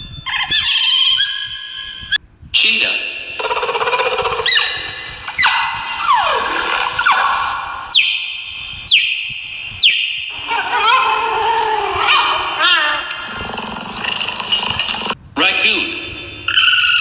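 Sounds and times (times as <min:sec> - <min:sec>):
cheetah chirping: 0:00.0 - 0:02.2, 0:03.2 - 0:15.2, 0:16.4 - 0:17.0.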